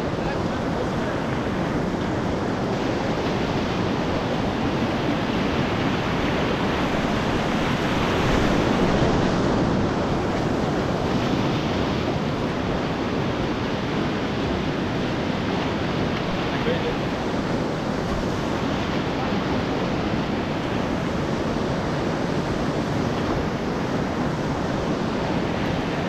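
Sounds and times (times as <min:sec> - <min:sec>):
whitewater rapids rushing: 0:00.0 - 0:26.0.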